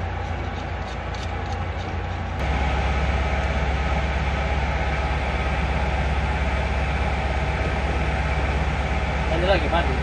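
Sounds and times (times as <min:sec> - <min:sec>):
ship engine drone: 0:00.0 - 0:10.0.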